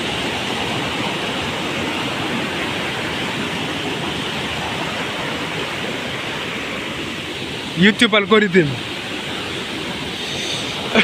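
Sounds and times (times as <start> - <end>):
flowing water: 0.0 - 11.0.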